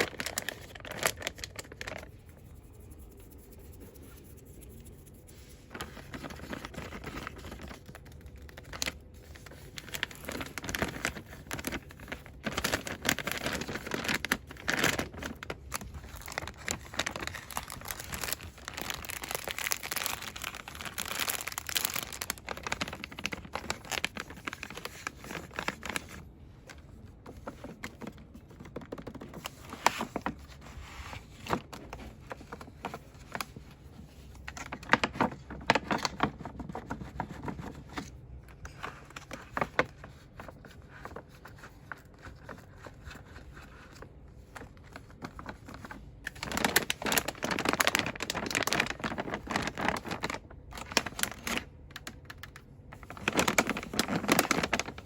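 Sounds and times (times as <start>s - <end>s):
packaging crinkling: 0.0s - 2.2s, 5.7s - 30.6s, 31.2s - 55.0s.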